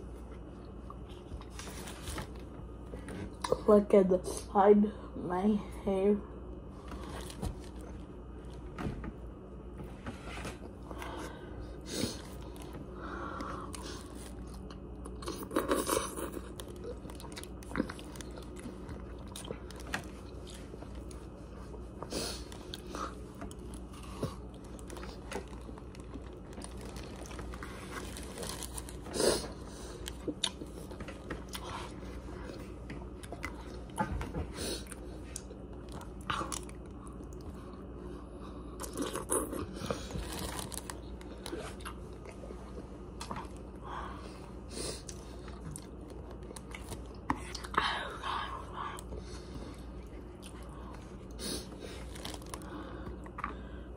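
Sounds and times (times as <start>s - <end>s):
person chewing food: 10.4s - 53.9s.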